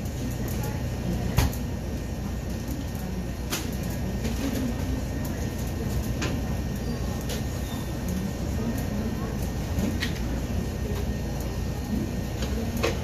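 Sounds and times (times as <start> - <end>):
low kitchen rumble: 0.0 - 13.0.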